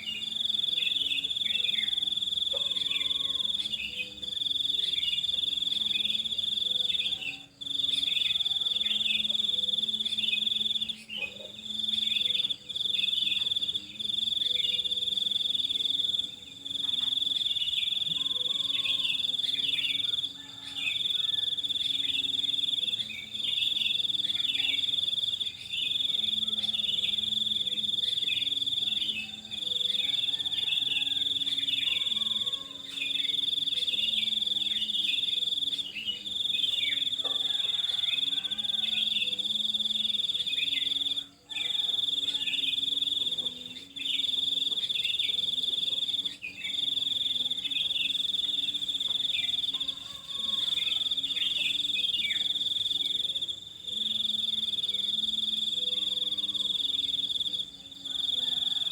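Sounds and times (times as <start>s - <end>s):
high-pitched insect trill: 0.0s - 58.9s.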